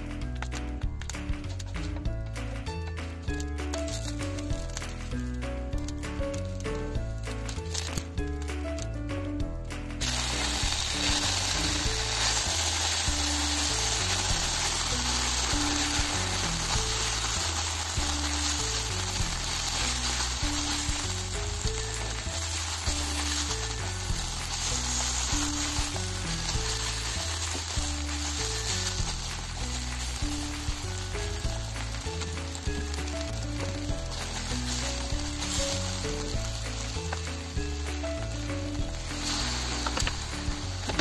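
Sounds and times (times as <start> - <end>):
background music with low beat: 0.0 - 41.0
food sizzling in hot oil: 3.3 - 8.9, 10.0 - 41.0.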